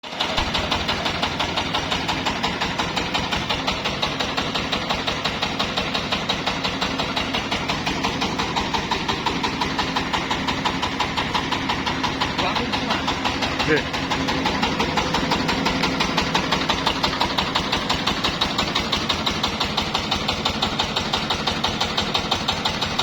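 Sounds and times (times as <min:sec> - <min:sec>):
rice huller engine pulsing: 0:00.0 - 0:23.0.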